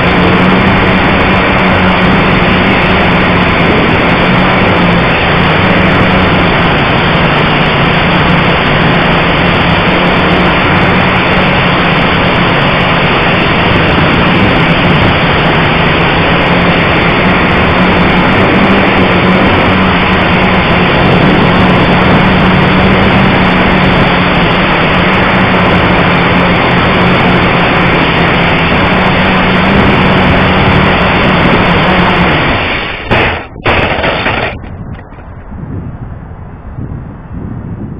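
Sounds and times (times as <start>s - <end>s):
drone propellers buzzing: 0.0s - 37.9s.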